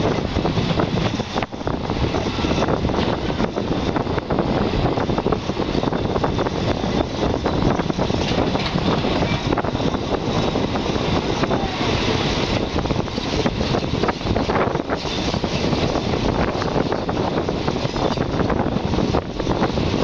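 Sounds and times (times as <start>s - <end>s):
rail clacks: 0.0s - 20.0s
train wheels rumbling on rails: 0.0s - 20.0s.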